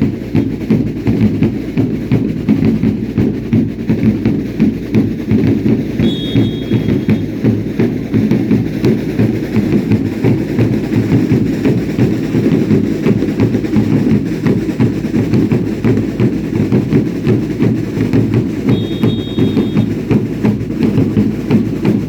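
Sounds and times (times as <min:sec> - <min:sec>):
dance drums pounding: 0:00.0 - 0:22.0.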